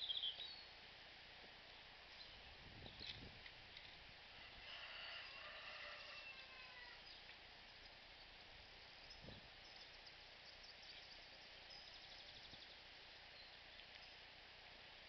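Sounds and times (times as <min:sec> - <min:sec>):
soft outdoor hiss: 0:00.0 - 0:15.0.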